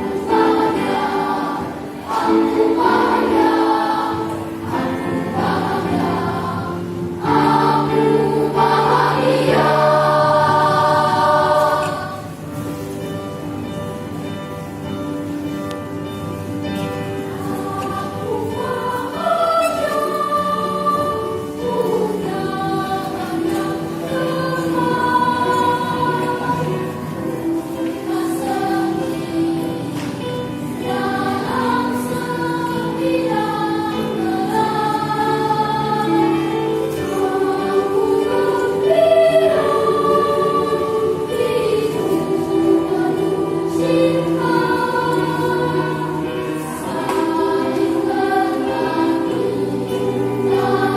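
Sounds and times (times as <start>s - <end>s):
choir singing a hymn: 0.0s - 50.9s.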